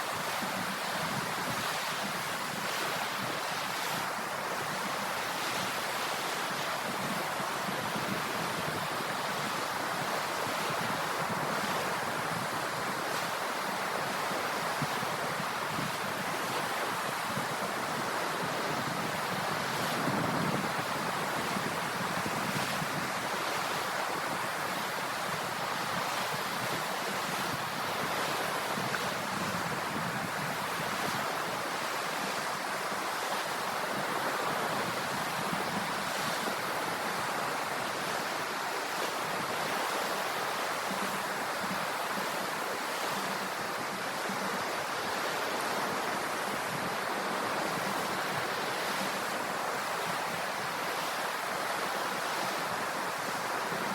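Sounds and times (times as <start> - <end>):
sea waves washing onto shore: 0.0 - 53.9.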